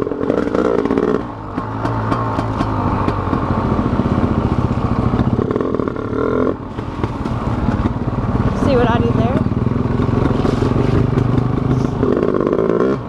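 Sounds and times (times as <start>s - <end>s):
bike clattering and rattling: 0.0s - 13.0s
dirt bike engine revving: 0.0s - 13.0s.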